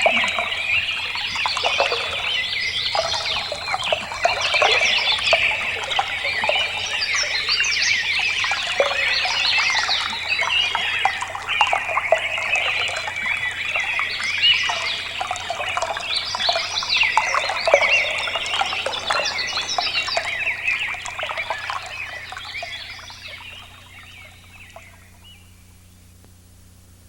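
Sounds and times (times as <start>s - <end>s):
small birds chirping: 0.0s - 25.5s
faint steady hum: 0.0s - 27.0s.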